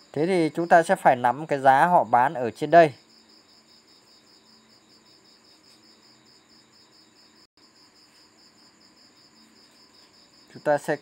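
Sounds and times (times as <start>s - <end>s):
faint cricket trill: 0.0s - 11.0s.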